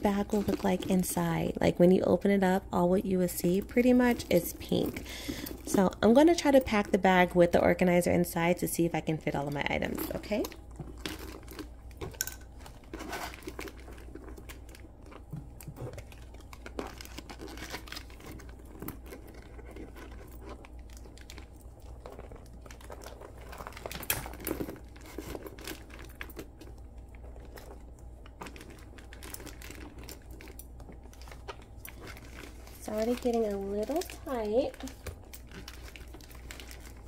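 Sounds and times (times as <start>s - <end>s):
rustling and crinkling: 0.0s - 37.0s.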